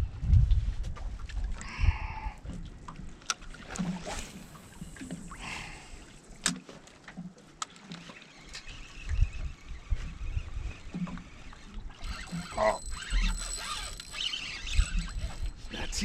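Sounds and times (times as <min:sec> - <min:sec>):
gear clicking in boat: 0:02.4 - 0:05.4, 0:06.2 - 0:16.0.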